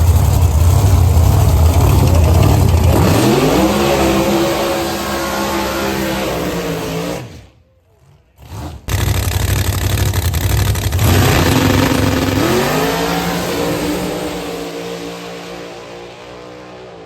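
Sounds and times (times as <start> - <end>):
race car engines accelerating: 0.0 - 17.0.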